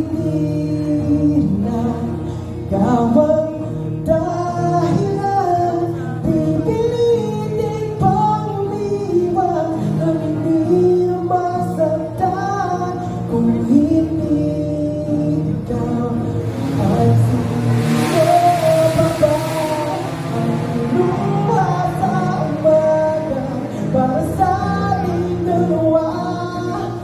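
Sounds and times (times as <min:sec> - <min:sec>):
acoustic guitar: 0:00.0 - 0:27.0
man singing into a microphone: 0:00.0 - 0:27.0.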